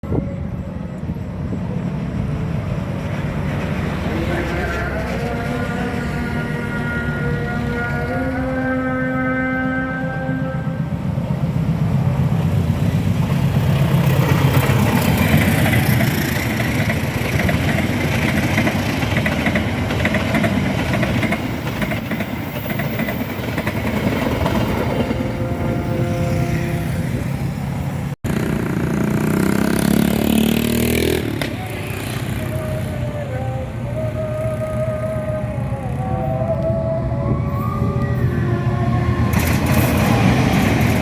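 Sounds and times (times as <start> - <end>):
motor vehicle engines: 0.0 - 41.0.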